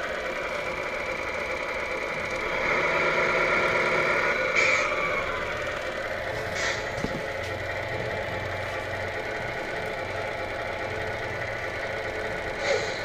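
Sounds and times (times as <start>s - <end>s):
simulated truck engine idling: 0.0s - 13.0s.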